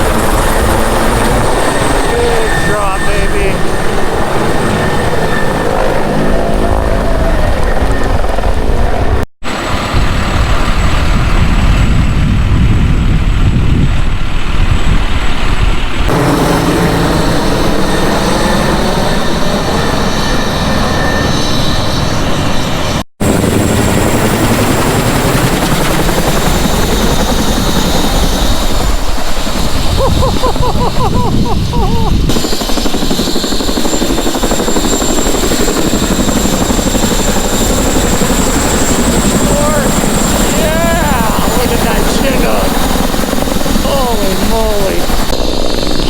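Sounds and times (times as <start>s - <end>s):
helicopter flying close by: 0.0s - 46.0s.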